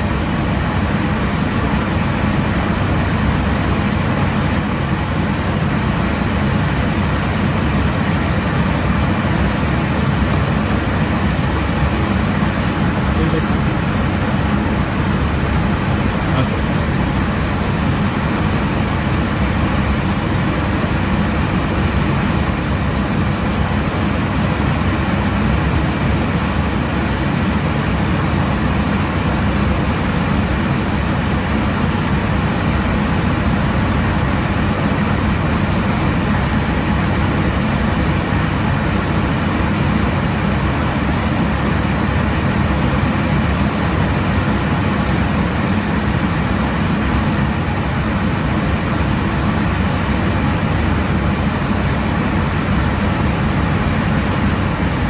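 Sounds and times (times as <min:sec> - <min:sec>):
aircraft engine and airflow drone: 0:00.0 - 0:55.0.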